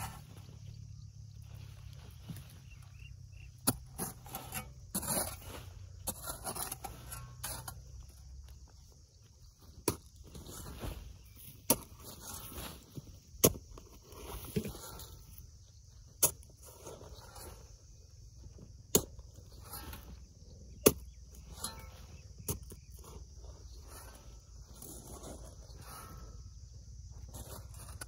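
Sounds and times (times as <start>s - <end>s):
soil rustling and crumbling: 0.0s - 28.0s.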